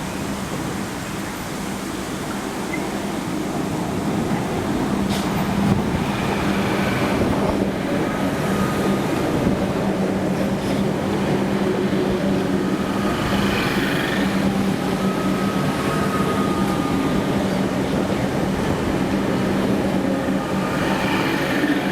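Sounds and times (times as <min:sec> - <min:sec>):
train humming with whining tones: 0:00.0 - 0:21.9.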